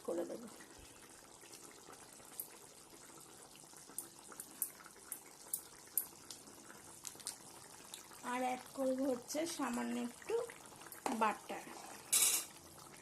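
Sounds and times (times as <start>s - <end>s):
thick gravy simmering: 0.0s - 13.0s.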